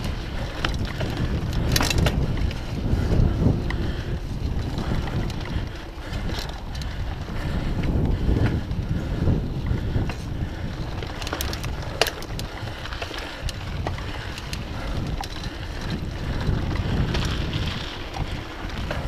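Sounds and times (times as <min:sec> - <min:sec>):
bike clicks and rattles: 0:00.0 - 0:19.0
tyres rumbling on dirt: 0:00.0 - 0:19.0
wind buffeting microphone: 0:00.0 - 0:19.0.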